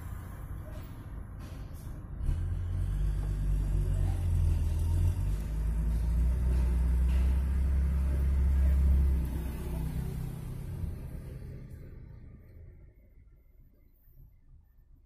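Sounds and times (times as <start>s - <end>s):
truck diesel engine running: 0.0s - 12.8s.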